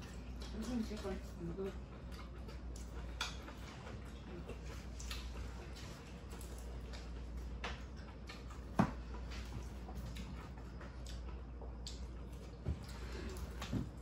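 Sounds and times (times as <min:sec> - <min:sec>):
chewing: 0:00.0 - 0:14.0
low steady hum: 0:00.0 - 0:14.0.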